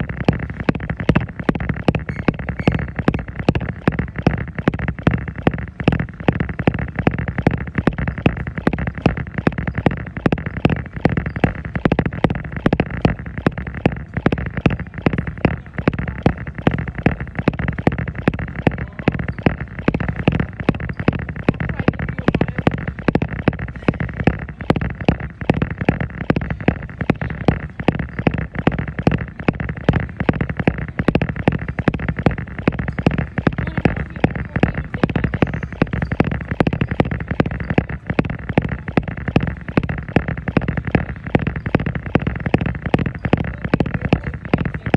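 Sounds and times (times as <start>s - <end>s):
footfalls on treadmill: 0.0s - 44.9s
treadmill running: 0.0s - 44.9s.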